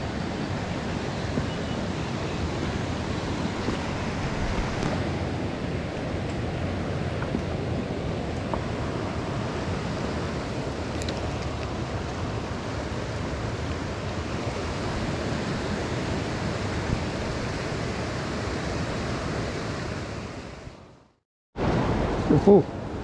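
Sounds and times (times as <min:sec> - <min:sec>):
river water rushing over stones: 0:00.0 - 0:20.6.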